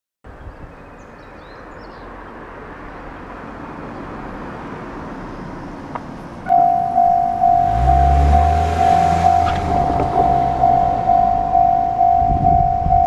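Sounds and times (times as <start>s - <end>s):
outdoor background rumble: 1.9s - 13.0s.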